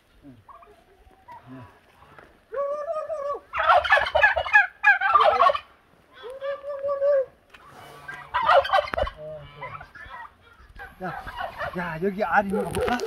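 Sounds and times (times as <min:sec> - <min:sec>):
turkeys gobbling: 0:00.4 - 0:13.0.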